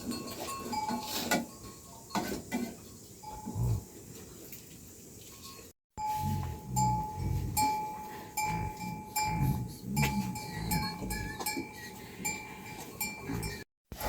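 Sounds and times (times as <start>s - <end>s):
metal livestock bell clanking: 0.0s - 3.8s, 5.4s - 13.7s.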